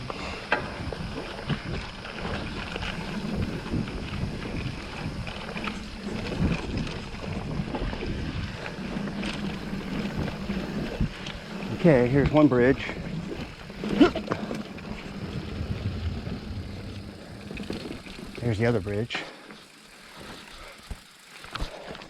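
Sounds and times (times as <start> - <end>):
wind on microphone: 0.0 - 18.9
steady low hum: 0.0 - 21.0
bike clicks and rattles: 0.0 - 22.0
bike tyres rolling on dirt: 0.0 - 22.0.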